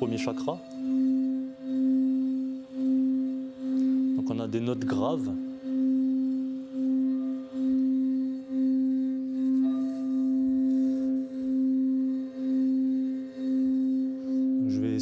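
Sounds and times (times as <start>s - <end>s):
faint higher bowl tone: 0.0s - 15.0s
singing bowl low sustained tone: 0.0s - 15.0s.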